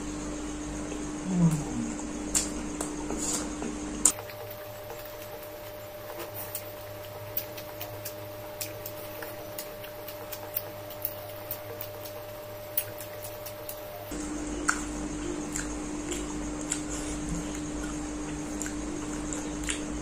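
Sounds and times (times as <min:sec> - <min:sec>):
faint hum: 0:00.0 - 0:20.0
mouth chewing with smacks: 0:00.9 - 0:20.0.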